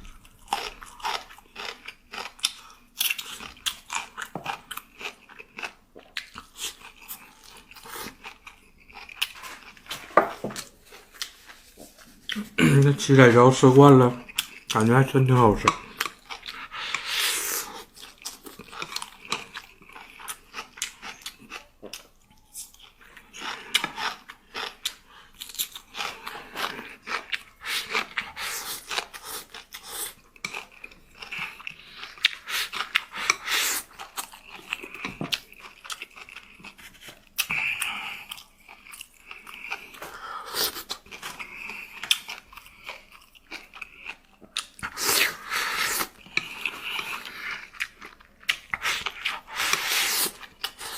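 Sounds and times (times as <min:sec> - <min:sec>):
person chewing crunchy food: 0:00.0 - 0:13.0, 0:14.2 - 0:50.9.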